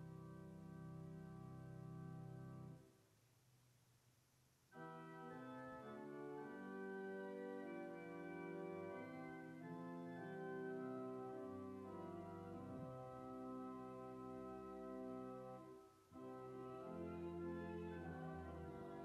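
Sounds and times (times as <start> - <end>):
organ playing held chords: 0.0 - 2.8, 4.8 - 19.0.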